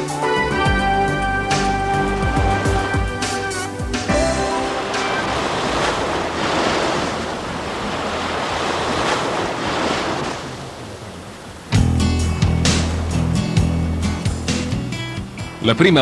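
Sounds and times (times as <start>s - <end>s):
surf breaking on a beach: 2.5s - 16.0s.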